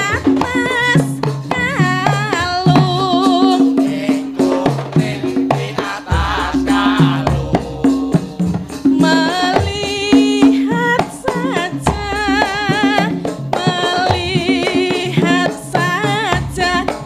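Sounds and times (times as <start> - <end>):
hand drum strokes: 0.0 - 17.0
woman singing with vibrato: 0.0 - 17.0.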